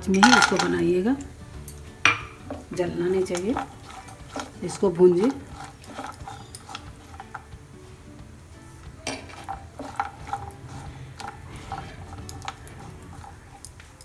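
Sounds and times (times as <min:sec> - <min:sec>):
spoon scraping a pan: 0:00.0 - 0:07.8, 0:08.9 - 0:14.0.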